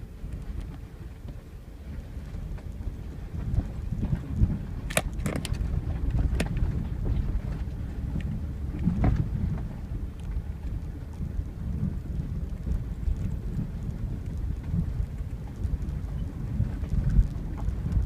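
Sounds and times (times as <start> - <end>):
truck engine and tyres rumbling: 0.0 - 18.0
wind on microphone: 0.0 - 18.0.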